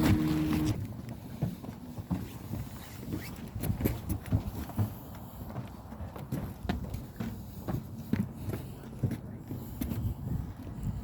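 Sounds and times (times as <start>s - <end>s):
footsteps on a trail: 0.0s - 11.0s.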